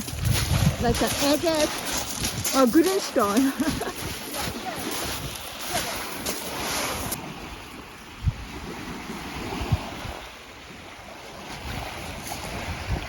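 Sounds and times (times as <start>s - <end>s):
waves washing onto shore: 0.0s - 13.0s
wind rumbling on microphone: 0.0s - 13.0s.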